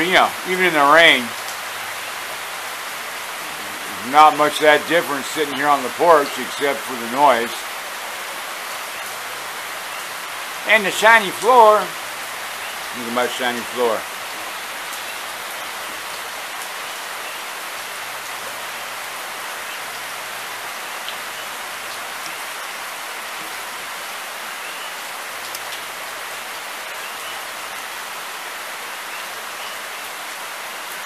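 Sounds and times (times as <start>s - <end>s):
rain falling steadily: 0.0s - 31.0s.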